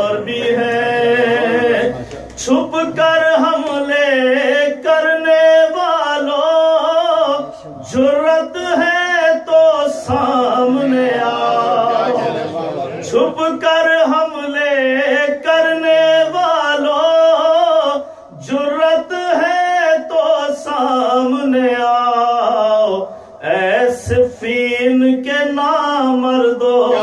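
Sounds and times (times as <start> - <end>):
man chanting into microphone: 0.0 - 27.0.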